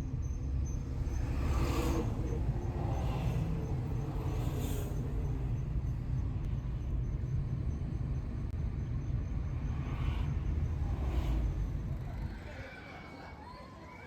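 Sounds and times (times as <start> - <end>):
motor vehicle rumble: 0.0 - 12.6.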